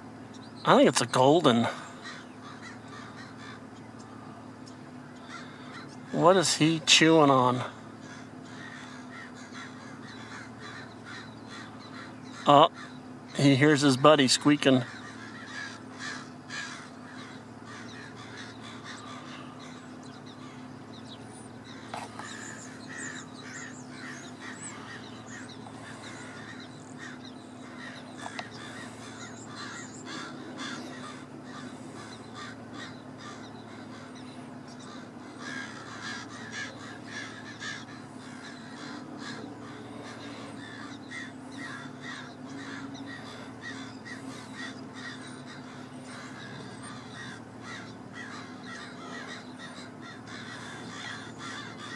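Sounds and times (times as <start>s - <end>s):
blackbirds calling: 0.0s - 51.9s
steady low hum: 0.0s - 51.9s.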